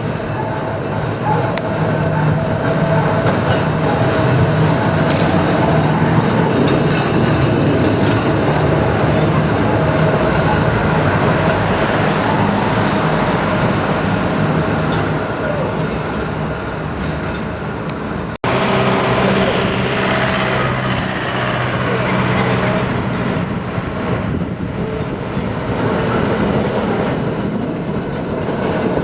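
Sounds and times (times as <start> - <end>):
electric tram motors humming: 0.0 - 29.0
tram wheels rumbling: 0.0 - 29.0.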